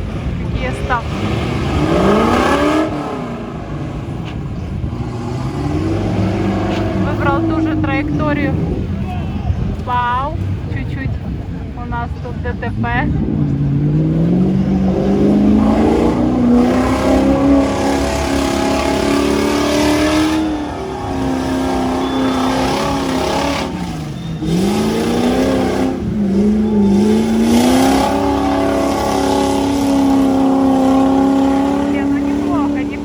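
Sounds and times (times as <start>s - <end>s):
off-road engines revving: 0.0s - 33.0s.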